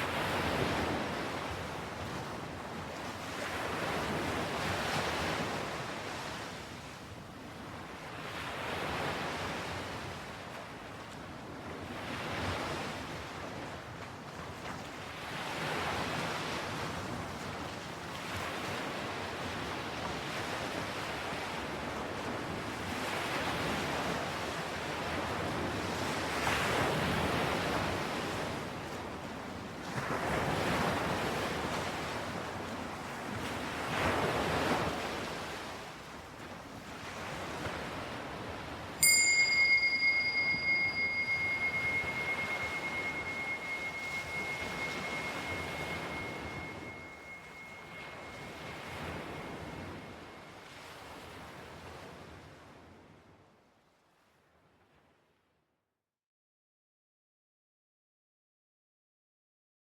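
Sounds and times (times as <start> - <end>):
light wind: 0.0 - 52.9
ocean waves washing on shore: 0.0 - 53.3.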